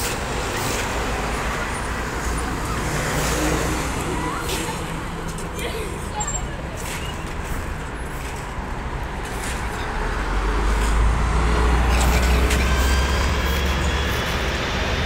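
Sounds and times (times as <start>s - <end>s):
trolleybus driving off: 0.0s - 15.0s.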